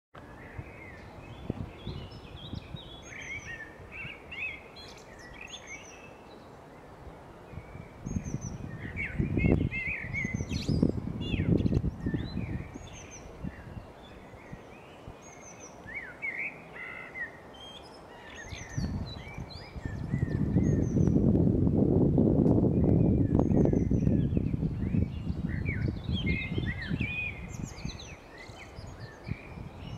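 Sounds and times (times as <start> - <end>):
songbirds singing: 0.2 - 21.4, 22.1 - 29.9.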